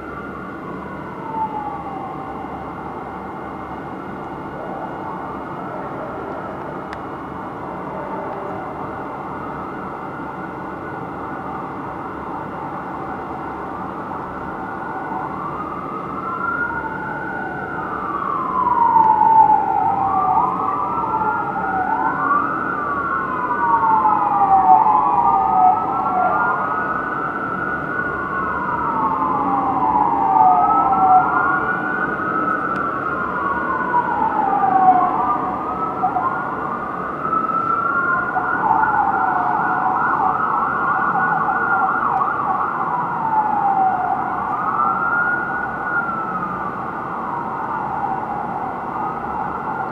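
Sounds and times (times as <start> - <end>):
city traffic hum: 0.0 - 49.9
fire truck sirens wailing: 0.0 - 49.9.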